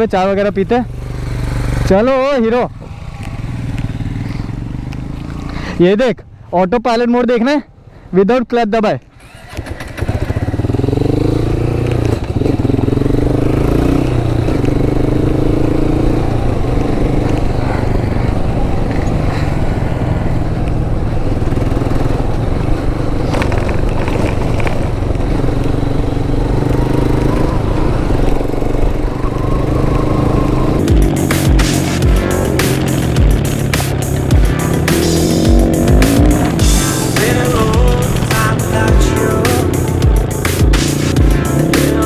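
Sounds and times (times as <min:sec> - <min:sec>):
motorcycle engine running: 0:00.0 - 0:05.7, 0:09.2 - 0:42.0
road and wind noise: 0:00.0 - 0:42.0.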